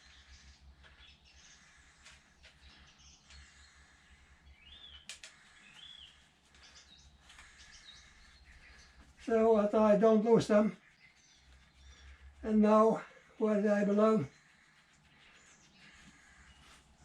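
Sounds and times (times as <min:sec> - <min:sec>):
faint birdsong: 0:00.0 - 0:17.0
low steady hum: 0:00.0 - 0:17.0.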